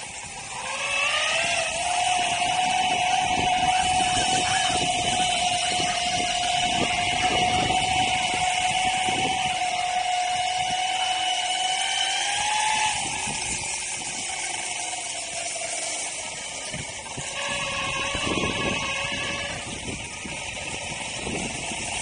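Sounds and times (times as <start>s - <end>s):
electric motor whine: 0.0s - 22.0s
tyre noise on wet pavement: 0.0s - 22.0s
wind buffeting microphone: 0.0s - 22.0s.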